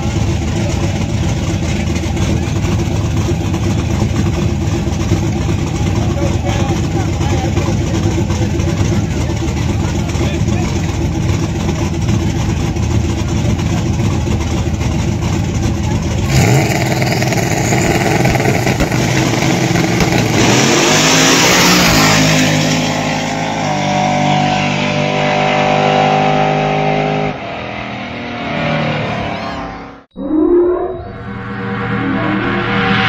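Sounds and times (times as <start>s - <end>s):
drag car engines roaring: 0.0s - 30.1s.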